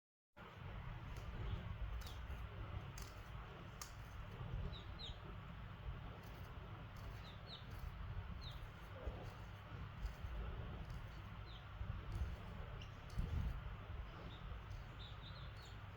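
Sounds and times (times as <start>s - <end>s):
steady low rumble: 0.4s - 15.9s
baby chicks peeping: 0.7s - 15.9s.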